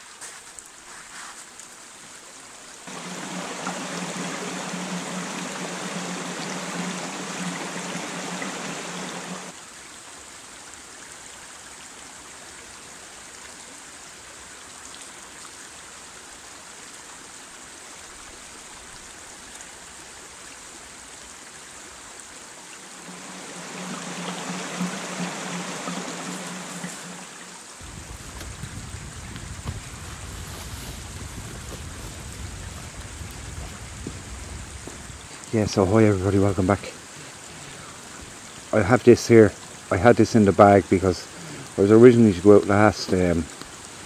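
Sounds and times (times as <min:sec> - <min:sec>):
outdoor hiss: 0:00.0 - 0:44.0
stream water rushing: 0:01.5 - 0:44.0.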